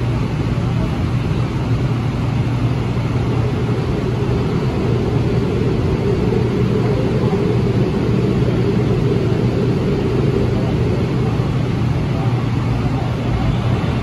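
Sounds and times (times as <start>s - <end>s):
light rail car rumble: 0.0s - 14.0s.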